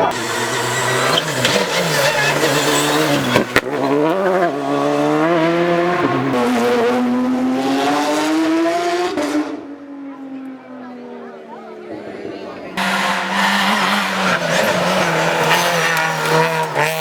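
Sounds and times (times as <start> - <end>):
rally car engine revving: 0.0 - 9.7, 12.8 - 17.0.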